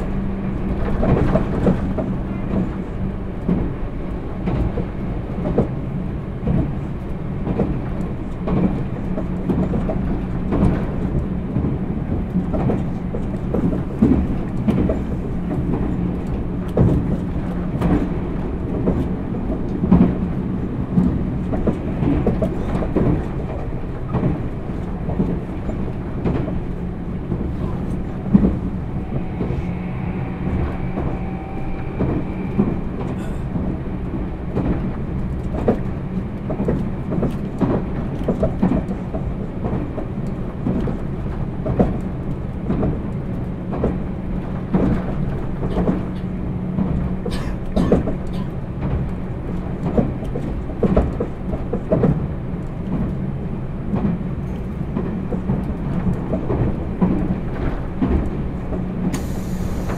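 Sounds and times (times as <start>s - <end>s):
electric train rumbling: 0.0s - 59.9s
wheels clicking on track: 0.0s - 59.9s.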